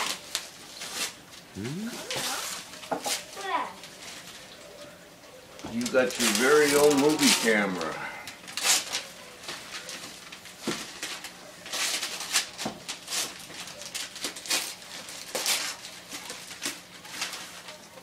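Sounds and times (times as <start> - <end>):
wrapping paper rustling and tearing: 0.0 - 4.6, 5.7 - 18.0.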